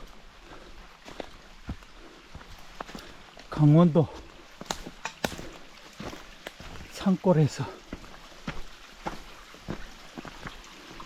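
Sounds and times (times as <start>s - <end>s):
footsteps on trail: 0.0s - 11.0s.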